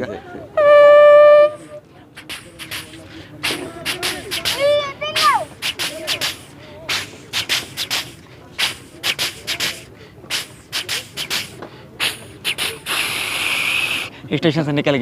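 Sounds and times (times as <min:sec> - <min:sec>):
man imitating train chuffs: 0:00.6 - 0:14.1
man imitating steam hiss: 0:01.5 - 0:14.1.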